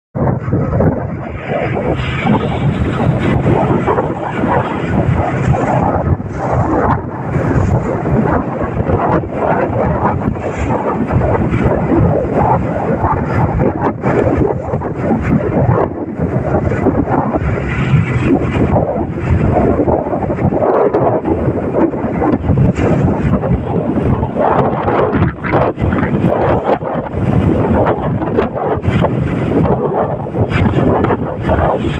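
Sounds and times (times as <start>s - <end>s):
boat engine low rumble: 0.2s - 31.9s
wind buffeting microphone: 0.2s - 31.9s.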